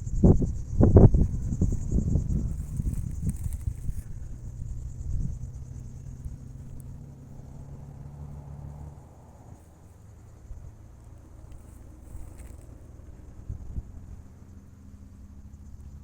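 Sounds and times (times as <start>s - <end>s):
insects trilling: 0.0s - 16.0s
low hum and rumble: 0.0s - 16.0s.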